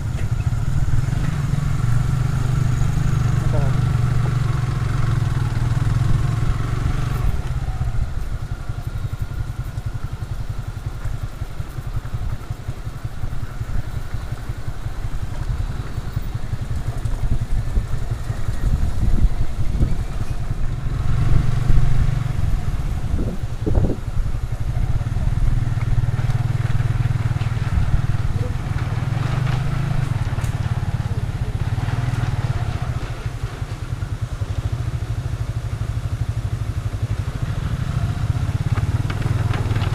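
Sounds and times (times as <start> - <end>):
wind rumble on microphone: 0.0 - 35.2
motorcycle engine running: 0.0 - 39.9.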